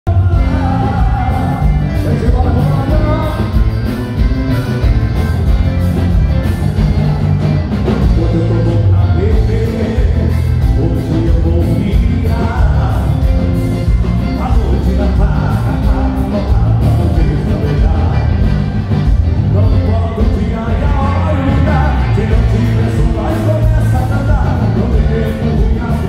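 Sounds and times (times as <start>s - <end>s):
electric bass: 0.0s - 26.0s
man singing: 0.0s - 26.0s
accordion: 0.1s - 26.0s
live band playing: 0.1s - 26.0s.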